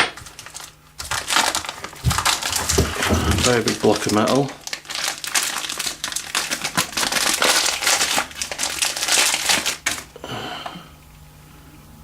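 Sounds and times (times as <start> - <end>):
packaging crinkling: 0.0 - 10.2.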